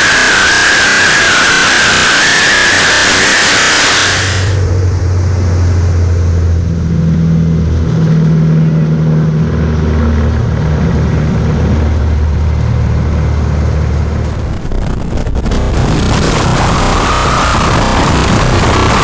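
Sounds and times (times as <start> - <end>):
plane engine and propeller: 0.0 - 19.0.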